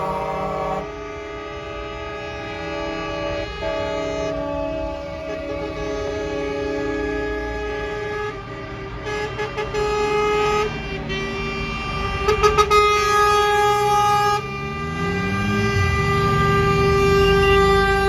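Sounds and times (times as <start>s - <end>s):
engine revving: 0.0s - 0.9s, 3.3s - 18.0s
truck air horns: 0.0s - 18.0s
truck engines running: 0.0s - 18.0s.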